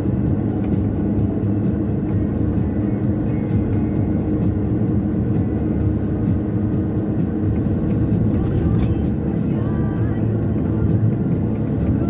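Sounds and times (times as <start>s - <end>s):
car road noise: 0.0s - 12.0s.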